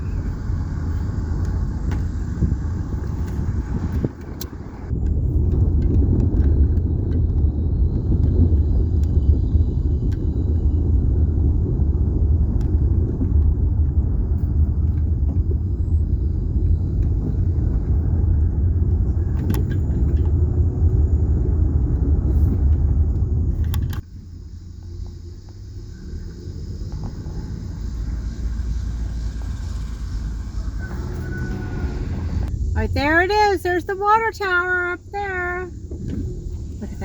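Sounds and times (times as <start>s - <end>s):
car driving interior rumble: 0.0s - 37.0s.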